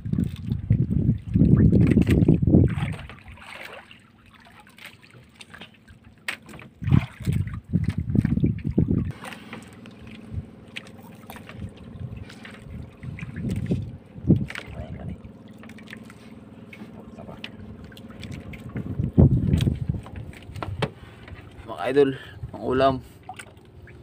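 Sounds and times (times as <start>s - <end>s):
water sloshing and dripping: 0.0s - 24.0s.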